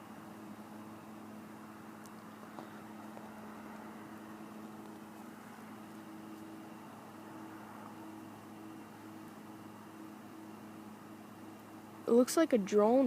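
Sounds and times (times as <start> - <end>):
faint low two-tone hum: 0.0 - 13.0.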